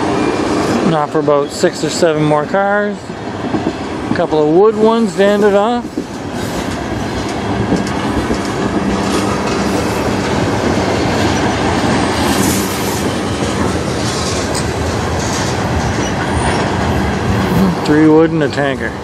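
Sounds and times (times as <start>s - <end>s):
train wheels rumbling on rails: 0.0s - 19.0s
train wheel clacks: 1.8s - 19.0s.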